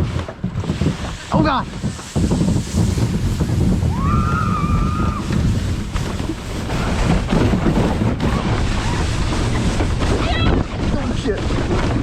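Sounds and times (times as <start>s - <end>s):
kayak scraping on snow: 0.0s - 12.0s
wind rush on microphone: 0.0s - 12.0s.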